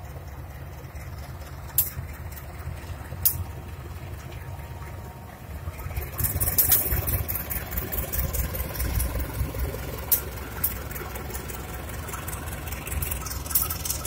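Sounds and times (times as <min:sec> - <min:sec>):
locomotive diesel engine rumble: 0:00.0 - 0:14.0.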